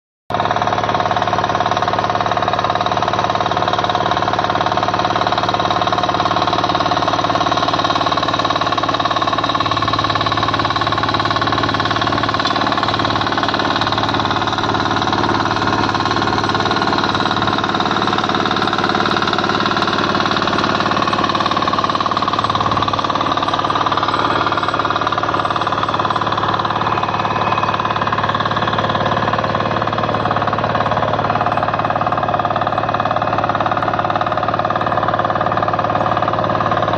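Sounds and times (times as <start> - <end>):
diesel engine running: 0.3 - 36.9.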